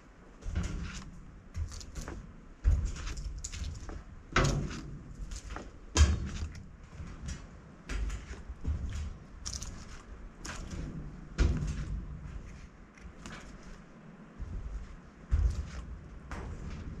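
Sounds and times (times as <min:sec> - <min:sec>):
heavy knocks and thumps: 0:00.3 - 0:17.0.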